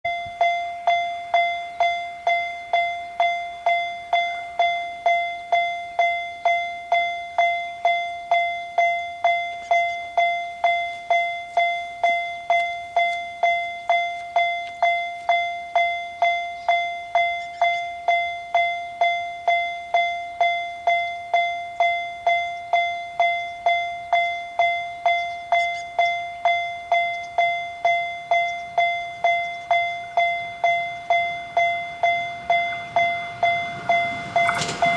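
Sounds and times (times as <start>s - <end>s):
railroad crossing alarm bell: 0.1s - 34.9s.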